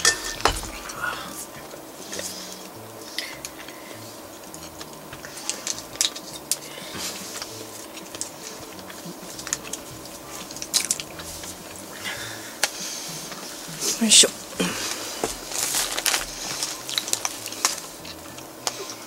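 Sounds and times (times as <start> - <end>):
person chewing fried food: 0.7 - 13.8, 14.4 - 19.0.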